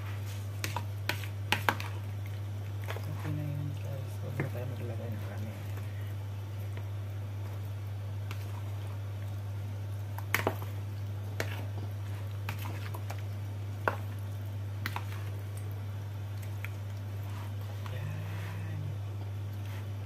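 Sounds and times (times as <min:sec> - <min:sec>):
chicken wings squishing in marinade: 0:00.5 - 0:20.0
low hum: 0:01.9 - 0:20.0.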